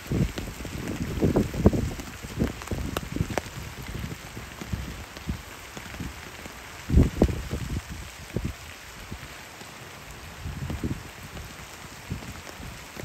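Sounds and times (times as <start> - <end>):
rain falling on a pond: 0.0 - 13.0.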